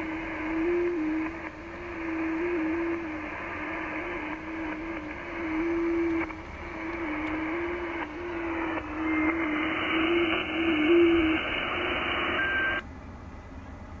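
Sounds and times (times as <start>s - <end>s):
radio band noise hiss: 0.0s - 12.8s.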